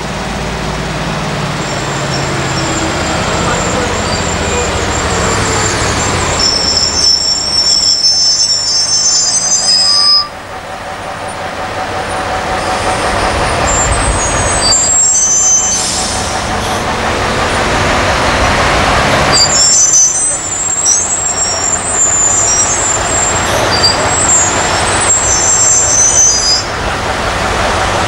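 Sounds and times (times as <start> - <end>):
high-pitched squeals: 0.0 - 26.9
crane diesel engine: 0.0 - 28.0.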